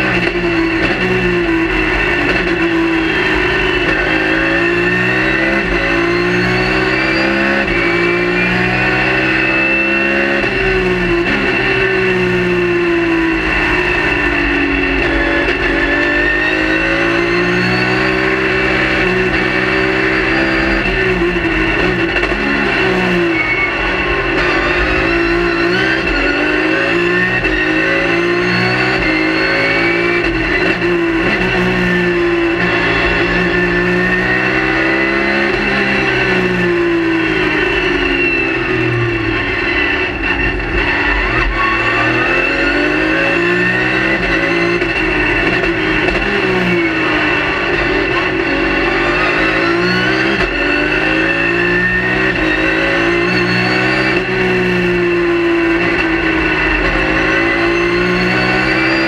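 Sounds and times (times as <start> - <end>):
race car engine revving: 0.0 - 59.0
steady high whine: 0.0 - 59.0.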